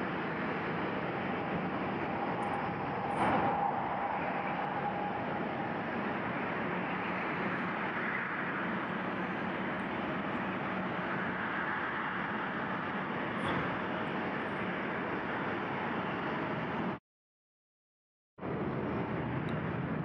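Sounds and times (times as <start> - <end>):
faint high whine: 0.0 - 17.0
jet engines roaring: 0.0 - 17.0, 18.4 - 20.0.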